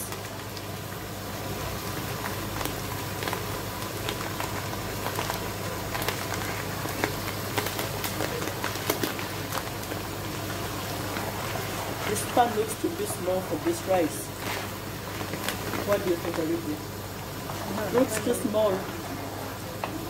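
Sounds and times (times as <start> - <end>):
rice being poured: 0.0 - 19.1
stew bubbling and popping: 0.0 - 20.0.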